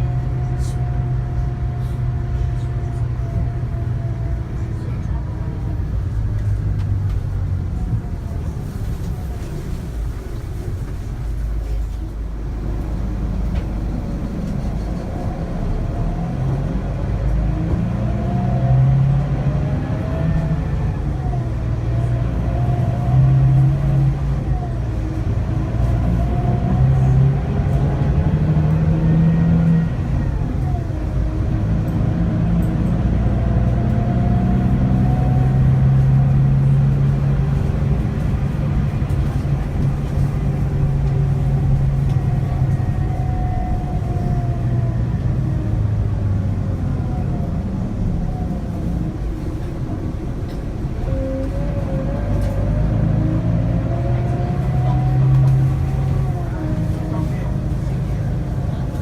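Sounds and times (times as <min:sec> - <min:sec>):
diesel engine pulling under load: 0:00.0 - 0:59.0.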